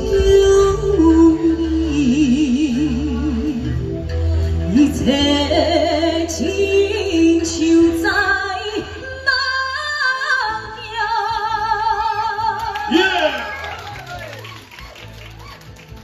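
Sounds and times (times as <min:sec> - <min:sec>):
woman singing into microphone: 0:00.0 - 0:13.1
karaoke backing track: 0:00.0 - 0:16.0.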